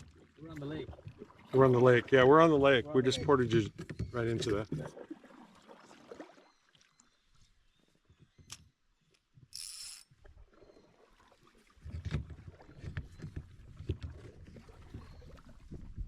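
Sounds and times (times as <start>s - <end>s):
paddle and water sounds: 0.0s - 16.0s.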